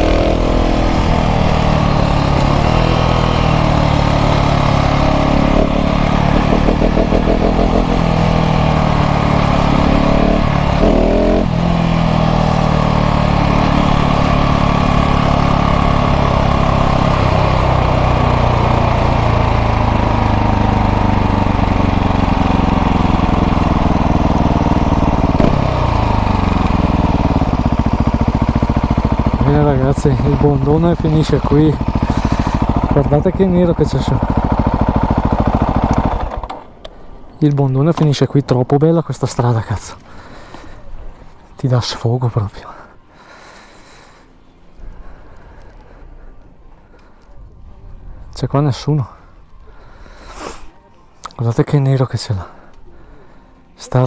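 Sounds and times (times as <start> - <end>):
motorcycle engine riding: 0.0 - 54.0.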